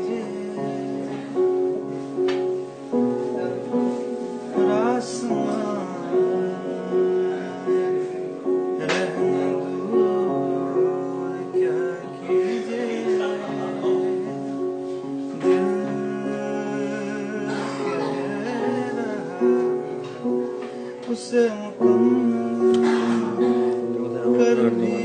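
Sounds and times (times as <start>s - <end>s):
keyboard chords: 0.0s - 25.0s.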